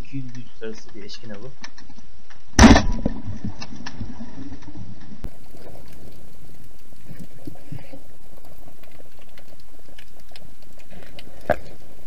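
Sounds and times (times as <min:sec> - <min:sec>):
small clicks and crackles: 0:00.0 - 0:02.6, 0:03.2 - 0:12.0.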